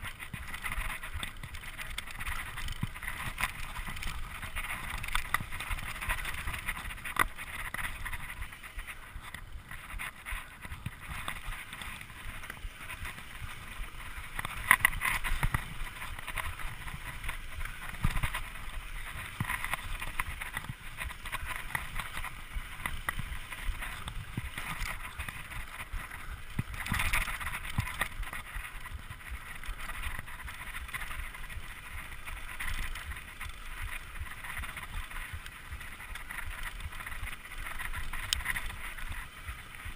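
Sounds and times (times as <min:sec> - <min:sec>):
bike clicks and rattles: 0:00.0 - 0:39.9.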